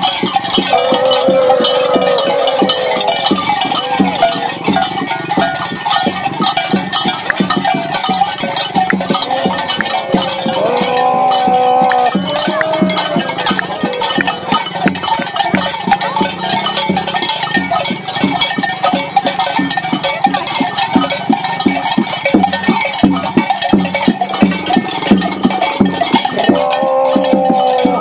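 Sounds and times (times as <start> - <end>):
cowbells clanking and jangling: 0.0 - 28.0.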